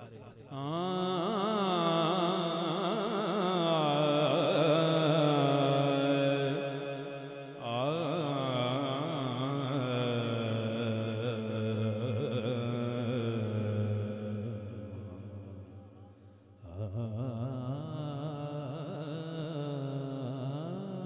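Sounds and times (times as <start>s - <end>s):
man singing wordless melismatic notes: 0.0s - 21.0s.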